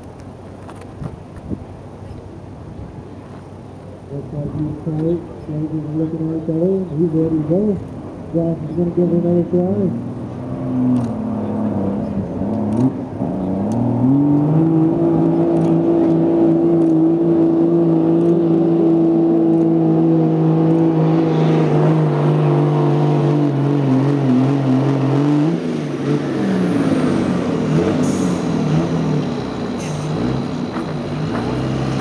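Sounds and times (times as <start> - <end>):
pickup truck engine revving: 4.7 - 32.0.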